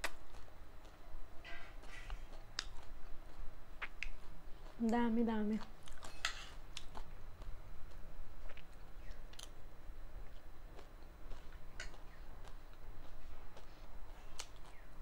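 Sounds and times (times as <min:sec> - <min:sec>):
crunchy snack chewing: 0:00.0 - 0:09.6, 0:10.2 - 0:14.9.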